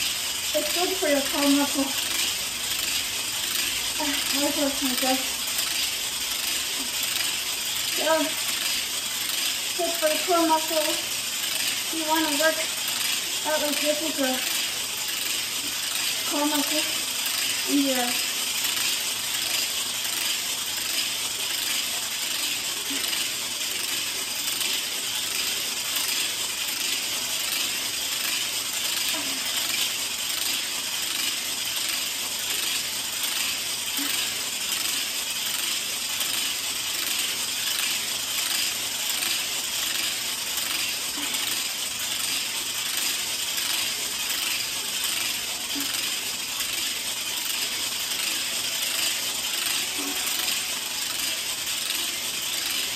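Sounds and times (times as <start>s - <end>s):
hula hoop ball rattling: 0.0s - 52.9s.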